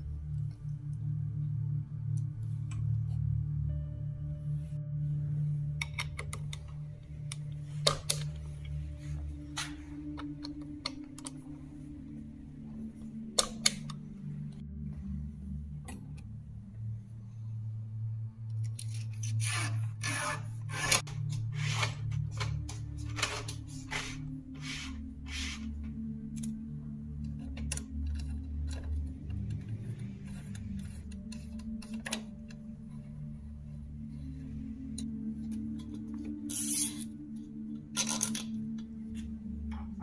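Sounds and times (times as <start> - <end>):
slow low music: 0.0 - 40.0.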